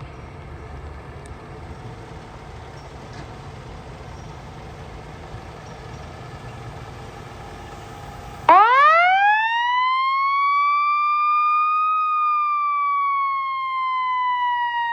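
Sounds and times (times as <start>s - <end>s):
diesel engine rumbling: 0.0s - 14.9s.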